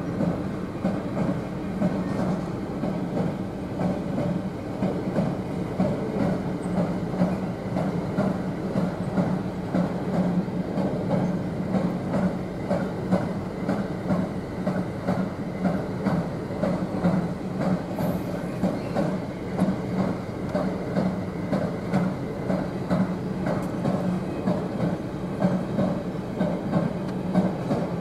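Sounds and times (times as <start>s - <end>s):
train wheels clicking over rail joints: 0.0s - 28.0s.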